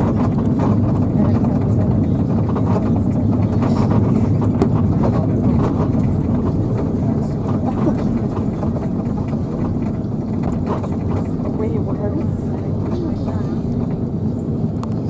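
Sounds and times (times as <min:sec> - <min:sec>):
aircraft engines and wheels rumbling: 0:00.0 - 0:15.0.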